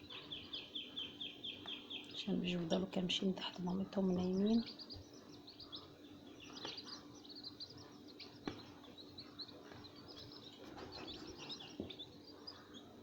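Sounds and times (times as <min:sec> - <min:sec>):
chicks peeping: 0:00.0 - 0:13.0
faint steady hum: 0:00.0 - 0:13.0.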